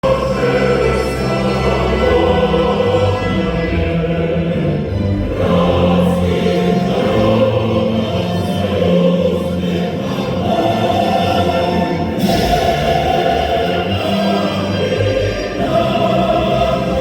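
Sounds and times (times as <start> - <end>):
choir singing an anthem: 0.0 - 17.0
musical accompaniment: 0.0 - 17.0.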